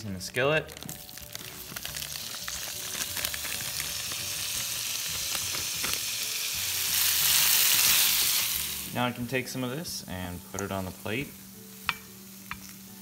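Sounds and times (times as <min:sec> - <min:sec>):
food frying sizzle: 0:00.1 - 0:13.0.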